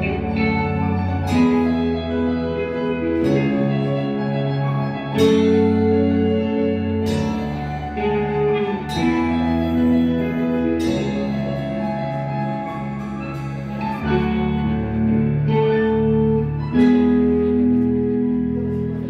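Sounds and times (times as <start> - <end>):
rock band held chords: 0.0 - 19.0.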